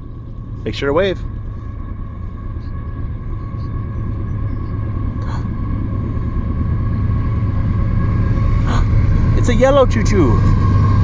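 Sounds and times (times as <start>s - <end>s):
freight train rumble: 0.0s - 11.0s
high-pitched whine: 0.0s - 11.0s.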